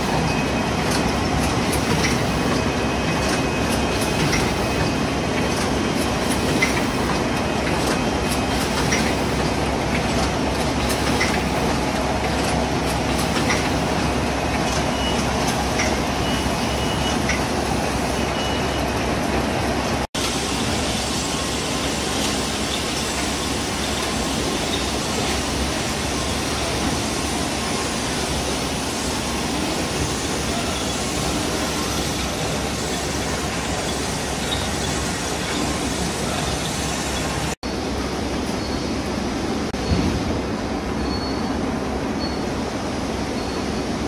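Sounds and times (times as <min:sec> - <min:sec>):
packaging machinery rumble and hiss: 0:00.0 - 0:38.8.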